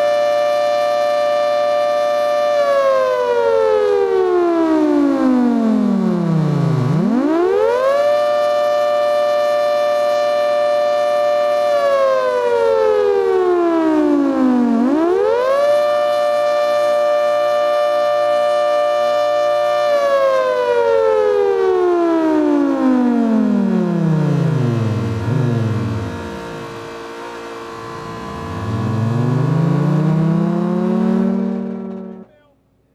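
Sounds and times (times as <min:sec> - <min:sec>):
warning siren wailing: 0:00.0 - 0:32.3.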